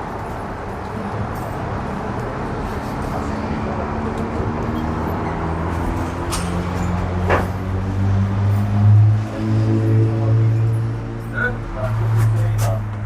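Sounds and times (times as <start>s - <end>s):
tram running rumble: 0.0s - 13.0s.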